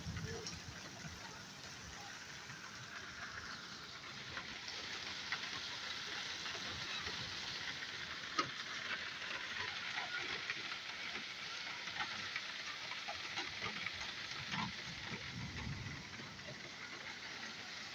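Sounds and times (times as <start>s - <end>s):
heavy rain pattering: 0.0s - 17.9s.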